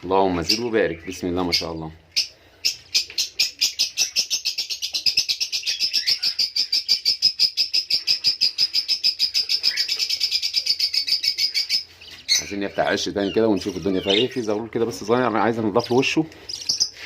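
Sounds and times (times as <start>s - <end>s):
budgerigar chicks cheeping: 0.4s - 17.0s.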